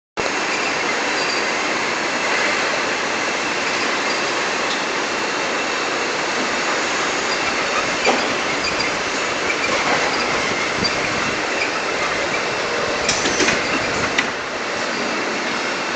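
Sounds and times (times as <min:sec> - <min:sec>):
conveyors running: 0:00.2 - 0:15.9.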